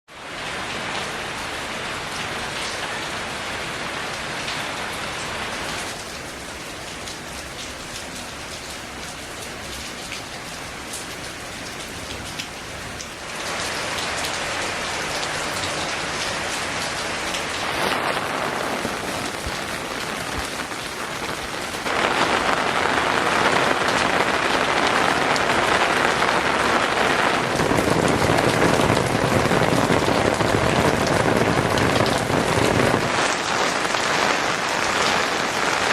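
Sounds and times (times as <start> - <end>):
steady rain falling: 0.1 - 35.9.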